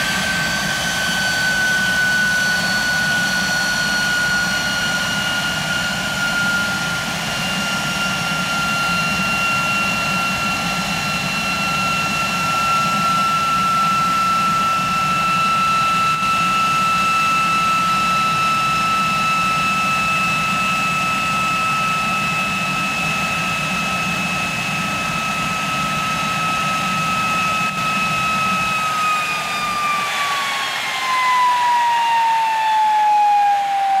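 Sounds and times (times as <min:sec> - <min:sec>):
jet engine whine and rumble: 0:00.0 - 0:34.0.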